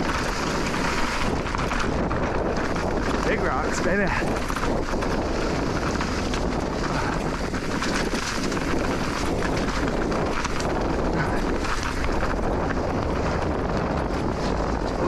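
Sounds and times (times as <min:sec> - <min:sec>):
bike knocks and rattles: 0:00.0 - 0:15.0
wind rushing over microphone: 0:00.0 - 0:15.0.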